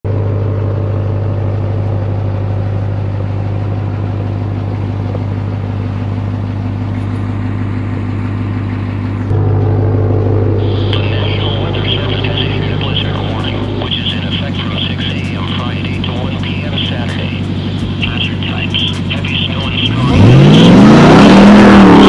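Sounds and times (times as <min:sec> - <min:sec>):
car engine idling: 0:00.1 - 0:22.0.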